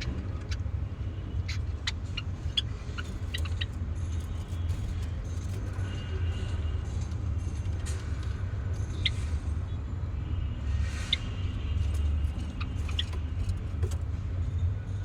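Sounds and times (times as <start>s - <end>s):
sparrows chirping: 0.0s - 9.8s, 10.6s - 14.2s.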